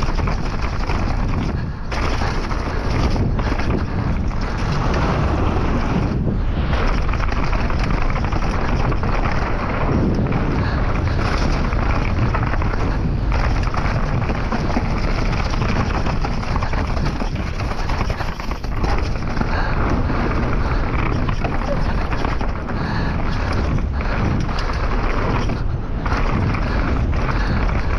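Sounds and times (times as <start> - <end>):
bike rattling over rocks: 0.0 - 27.9
wind rushing over microphone: 0.0 - 27.9.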